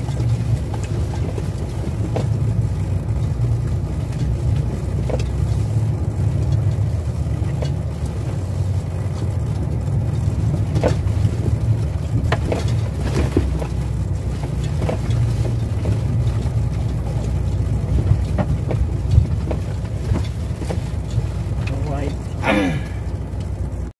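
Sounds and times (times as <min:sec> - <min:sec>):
light rattles and knocks: 0:00.0 - 0:23.9
truck diesel engine rumbling: 0:00.0 - 0:23.9.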